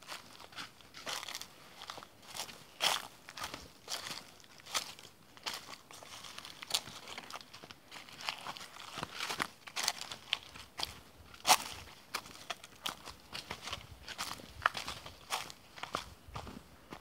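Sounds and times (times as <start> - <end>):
footsteps crunching on leaves: 0.0 - 17.0.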